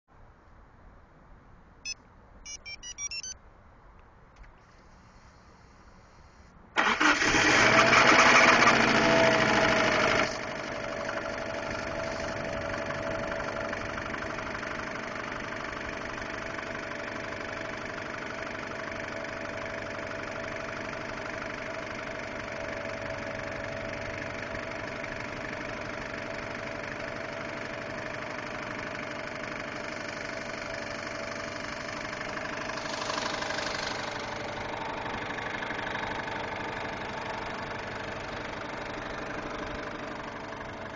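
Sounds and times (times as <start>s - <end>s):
car engine starting and idling: 4.4s - 40.9s
engine ticking: 6.8s - 40.9s.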